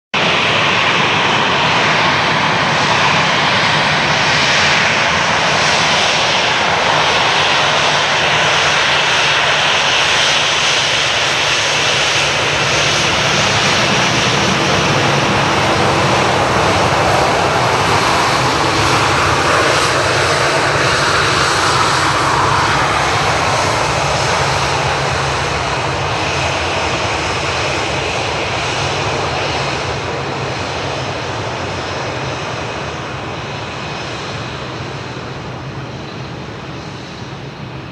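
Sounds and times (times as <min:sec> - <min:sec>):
jet engines at high thrust: 0:00.2 - 0:37.9.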